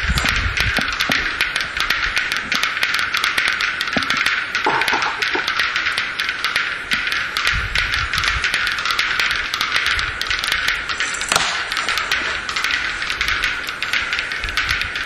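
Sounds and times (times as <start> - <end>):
bird clicking display song: 0.0 - 15.0
steady hiss: 0.0 - 15.0.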